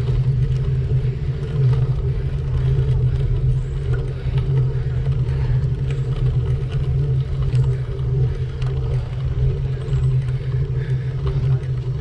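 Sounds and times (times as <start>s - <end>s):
bike rolling over asphalt: 0.0s - 12.0s
light ticks and rattles: 0.0s - 12.0s.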